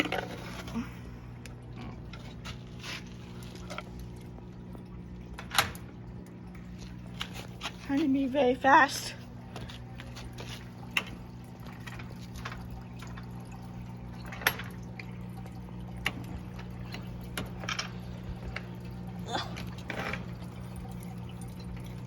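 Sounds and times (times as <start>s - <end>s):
low electric hum: 0.0s - 22.0s
water trickling and dripping: 0.0s - 22.0s.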